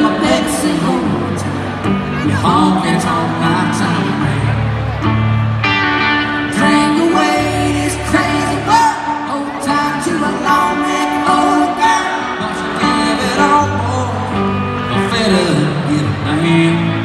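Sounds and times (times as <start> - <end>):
person singing: 0.0 - 4.7, 6.0 - 17.0
electric guitar: 0.0 - 17.0
live rock band playing: 0.0 - 17.0.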